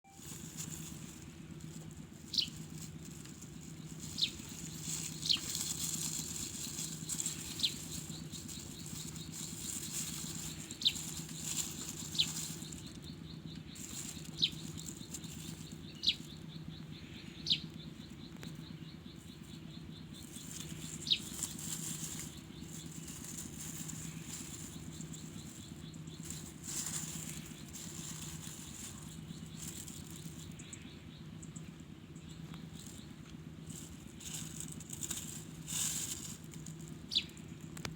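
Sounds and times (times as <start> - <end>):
steady low hum: 0.1 - 37.9.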